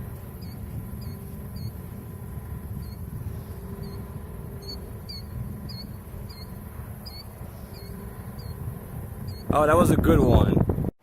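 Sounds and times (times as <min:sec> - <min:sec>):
steady low rumble: 0:00.0 - 0:10.9.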